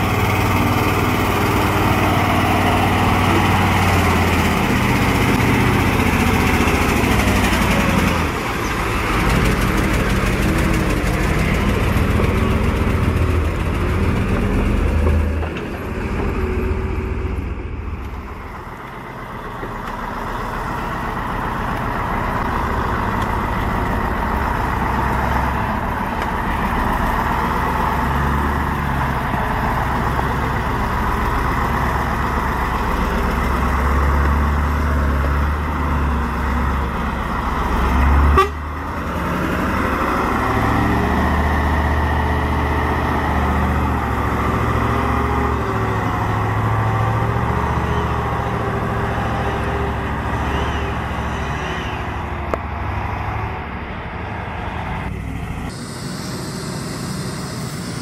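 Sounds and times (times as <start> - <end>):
truck diesel engine labouring: 0.0 - 58.0.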